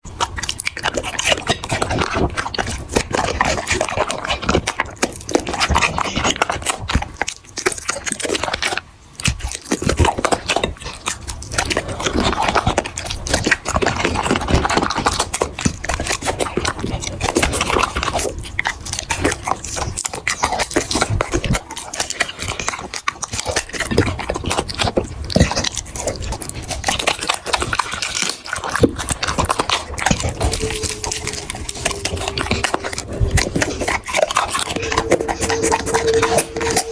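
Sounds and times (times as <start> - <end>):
puppy crunching dry food: 0.0 - 36.9.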